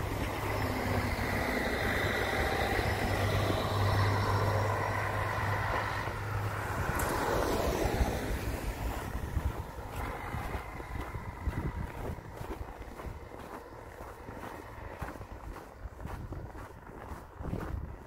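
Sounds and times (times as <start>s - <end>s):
bus engine hum: 0.0s - 18.0s.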